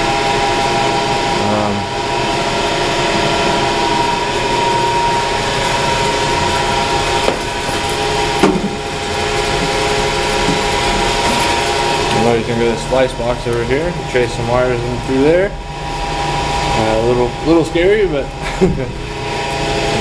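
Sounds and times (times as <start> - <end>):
mechanical room machinery drone: 0.0 - 20.0.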